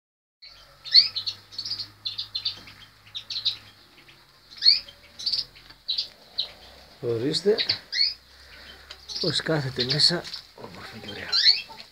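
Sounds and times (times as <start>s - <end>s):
small birds chirping: 0.4s - 11.9s.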